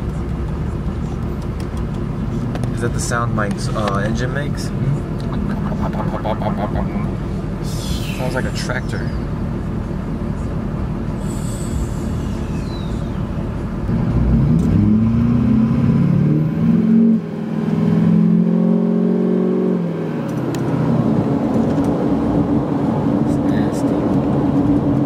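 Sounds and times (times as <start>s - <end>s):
diesel engine accelerating: 0.0s - 25.0s.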